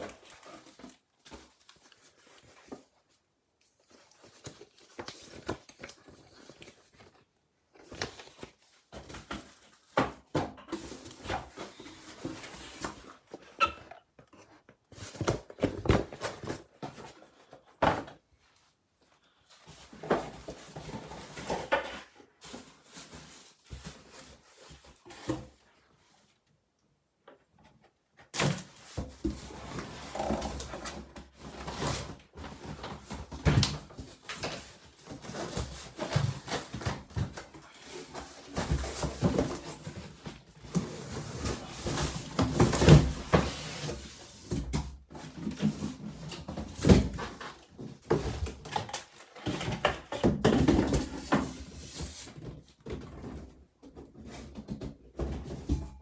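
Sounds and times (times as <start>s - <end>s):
cardboard and foam scraping rustling: 0.0s - 18.8s, 19.5s - 26.2s, 28.4s - 56.0s.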